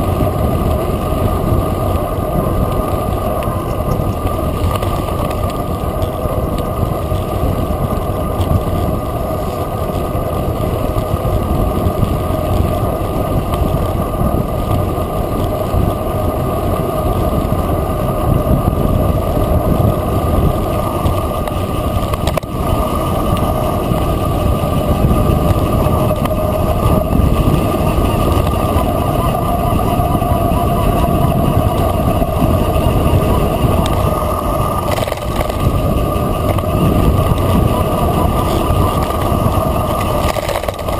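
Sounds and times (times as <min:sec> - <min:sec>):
tyres rumbling on gravel: 0:00.0 - 0:40.9
wind rushing over microphone: 0:00.0 - 0:40.9.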